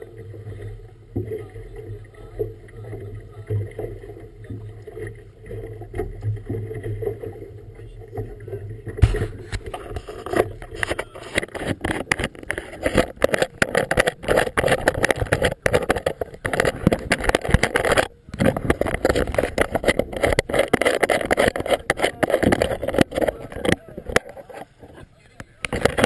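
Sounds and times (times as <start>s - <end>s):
choppy water splashing: 0.0s - 26.0s
wind: 0.0s - 26.0s.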